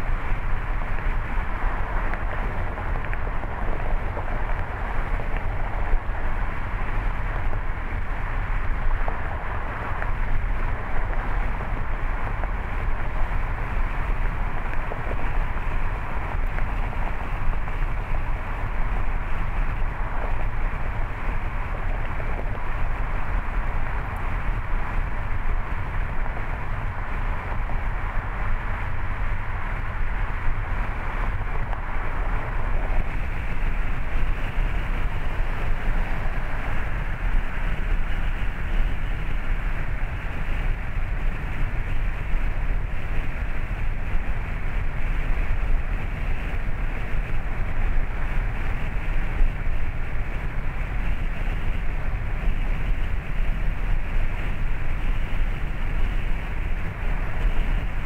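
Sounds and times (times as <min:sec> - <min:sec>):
wind noise: 0:00.0 - 0:58.0.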